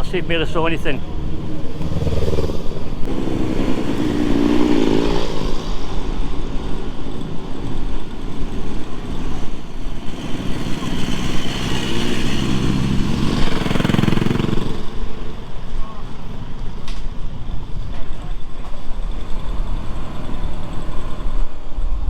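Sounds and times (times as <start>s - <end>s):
motorcycle engine revving: 1.0s - 21.7s.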